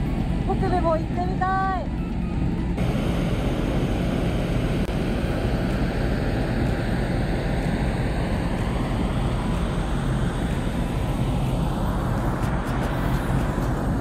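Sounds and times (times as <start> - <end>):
ferry engine rumble: 0.0 - 14.0
wind: 0.0 - 14.0.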